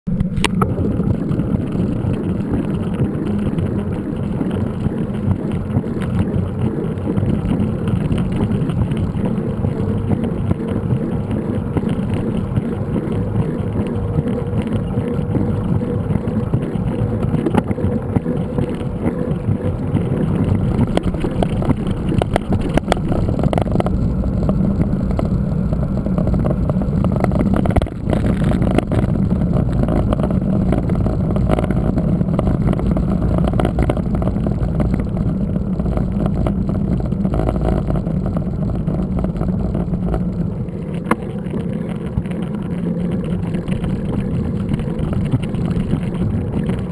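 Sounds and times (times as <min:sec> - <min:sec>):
wind buffeting microphone: 0:00.1 - 0:46.9.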